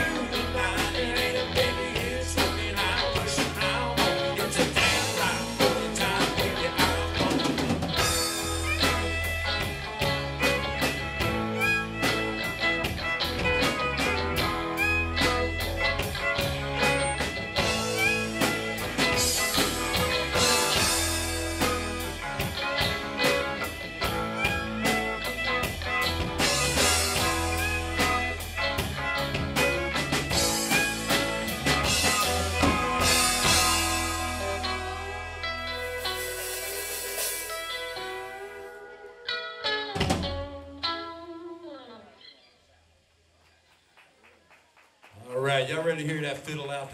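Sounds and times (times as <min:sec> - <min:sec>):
drum kit beat: 0:00.0 - 0:38.9, 0:39.6 - 0:40.9
electric guitars: 0:00.0 - 0:42.7
bass: 0:00.0 - 0:44.0, 0:45.0 - 0:46.9.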